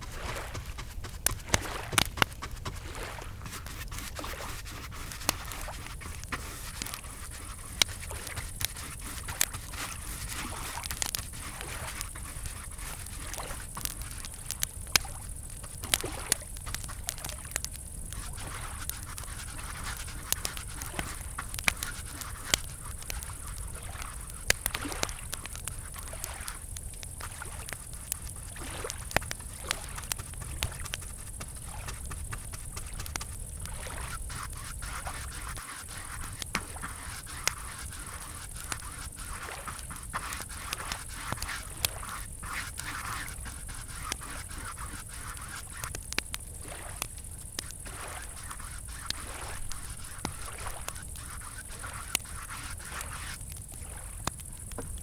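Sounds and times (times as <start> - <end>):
campfire crackling and popping: 0.0 - 55.0
crickets chirring: 0.0 - 55.0.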